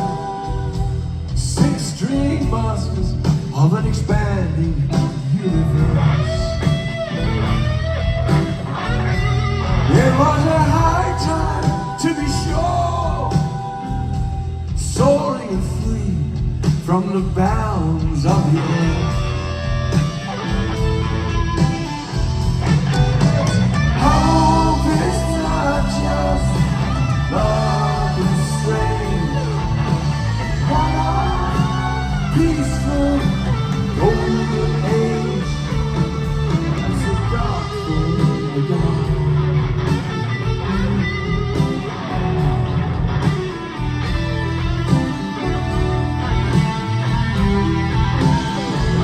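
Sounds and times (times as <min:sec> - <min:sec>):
electric guitar: 0:00.0 - 0:49.0
rock band playing instrumental: 0:00.0 - 0:49.0.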